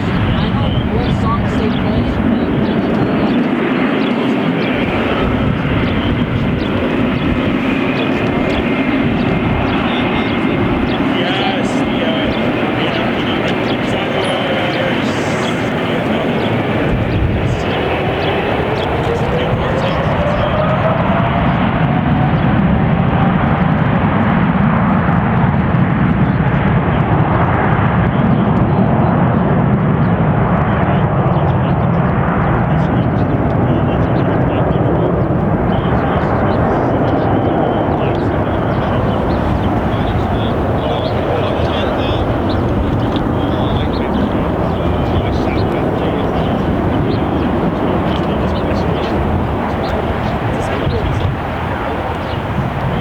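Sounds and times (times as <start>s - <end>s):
airliner engines running: 0.0s - 53.0s.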